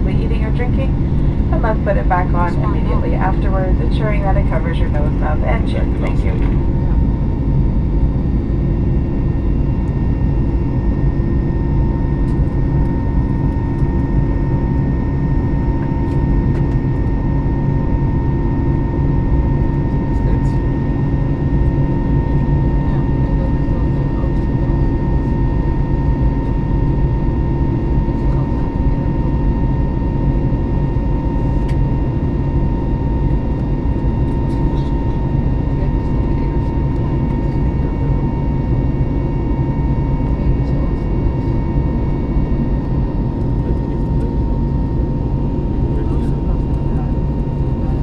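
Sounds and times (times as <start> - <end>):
aircraft engine and airflow rumble: 0.0 - 48.0
steady high whine: 0.0 - 48.0.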